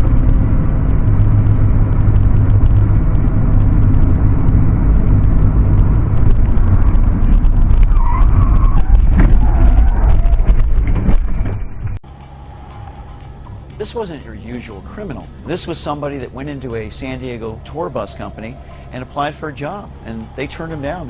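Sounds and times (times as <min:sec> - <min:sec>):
motor vehicle low rumble: 0:00.0 - 0:21.0.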